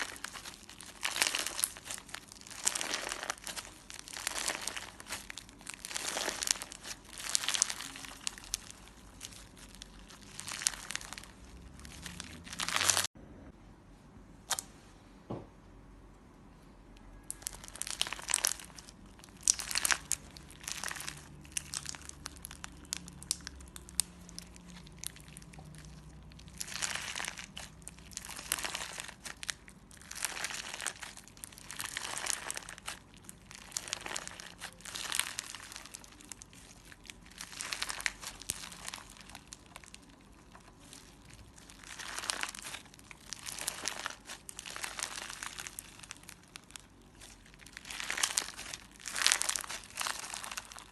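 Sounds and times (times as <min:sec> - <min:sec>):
slime crackling and popping: 0:00.0 - 0:13.1, 0:17.0 - 0:50.9.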